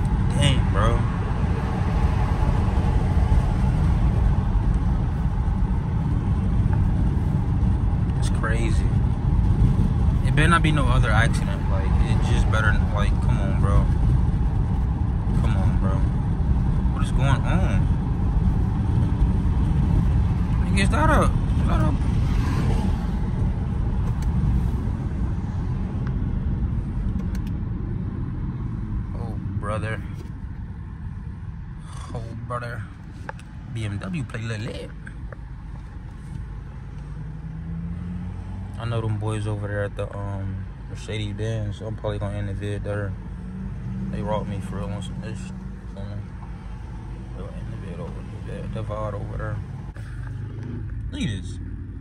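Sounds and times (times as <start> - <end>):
tyre and road noise: 0.0 - 52.0.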